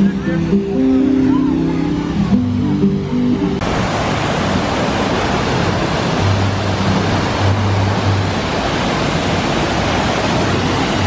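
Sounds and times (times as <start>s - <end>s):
waterfall rushing: 0.0s - 11.0s
wave pool surf: 0.0s - 11.0s.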